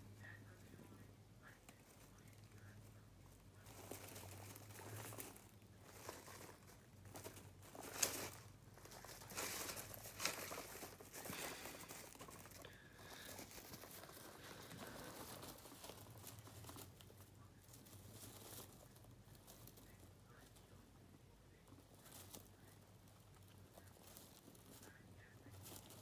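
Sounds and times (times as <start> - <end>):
guinea pigs rustling in bedding: 0.0 - 26.0.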